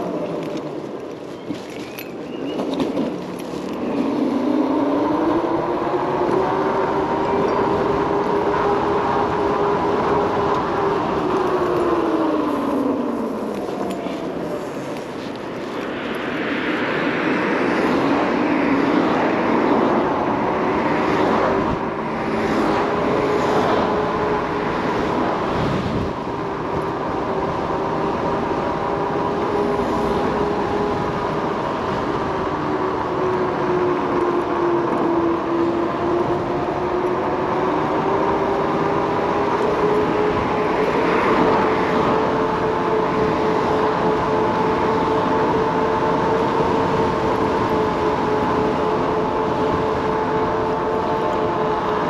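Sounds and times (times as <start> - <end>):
wind rush: 0.0 - 52.0.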